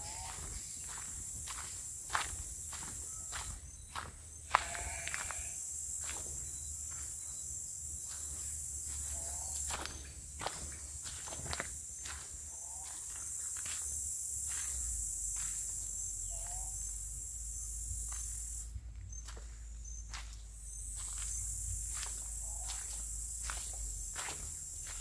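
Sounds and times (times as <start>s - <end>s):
footsteps on a road: 0.0s - 25.0s
insect chorus: 0.0s - 25.0s.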